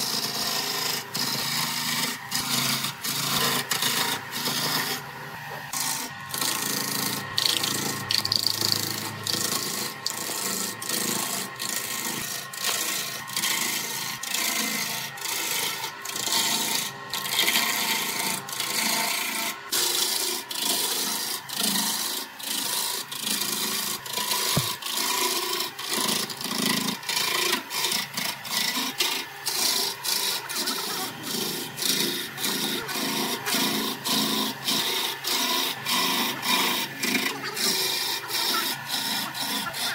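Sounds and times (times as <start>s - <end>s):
gouge scraping spinning wood: 0.0s - 39.9s
lathe humming: 0.0s - 39.9s.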